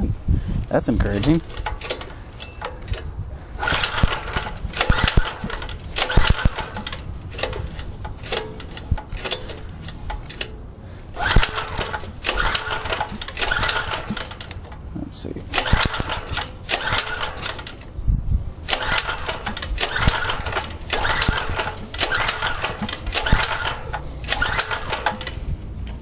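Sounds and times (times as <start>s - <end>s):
engine pull-starter cranking: 1.0s - 14.9s, 15.5s - 18.0s, 18.6s - 26.0s.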